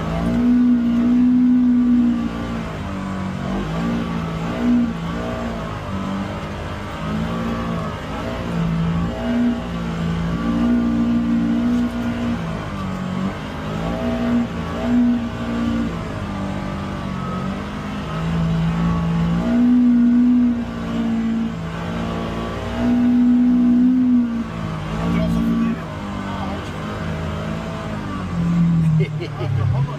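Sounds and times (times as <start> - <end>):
utility vehicle engine revving: 0.0 - 29.9.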